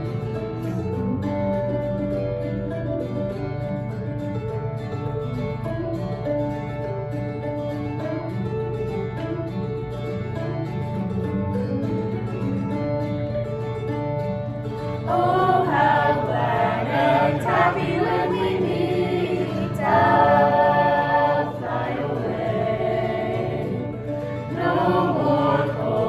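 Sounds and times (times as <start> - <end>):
strummed and picked guitar: 0.0 - 26.0.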